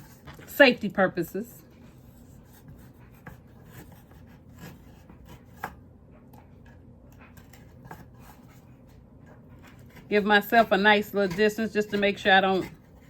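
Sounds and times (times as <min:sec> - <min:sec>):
craft knife scraping cardboard: 0:00.0 - 0:00.6, 0:01.8 - 0:05.8, 0:06.6 - 0:13.0.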